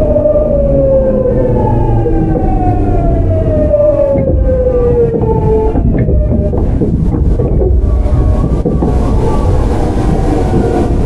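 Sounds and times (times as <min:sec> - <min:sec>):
falling inverter whine: 0:00.0 - 0:11.0
wheels rumbling on rail: 0:00.0 - 0:11.0.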